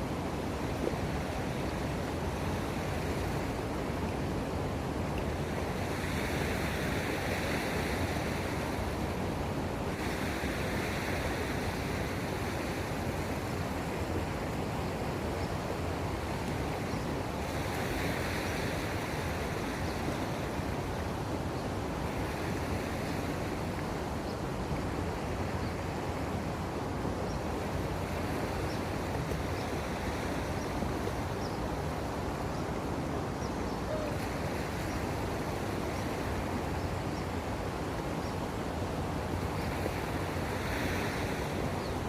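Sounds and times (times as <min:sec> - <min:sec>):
sea waves washing: 0:00.0 - 0:42.0.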